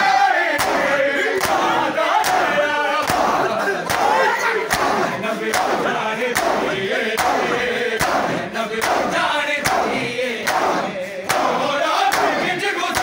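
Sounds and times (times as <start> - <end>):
men chanting in unison: 0.0 - 13.0
hands slapping chests: 0.6 - 13.0.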